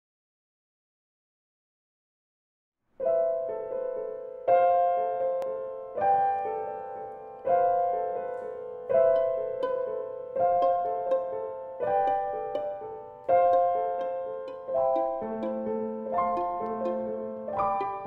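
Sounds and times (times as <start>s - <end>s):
grand piano chords: 3.0s - 18.0s.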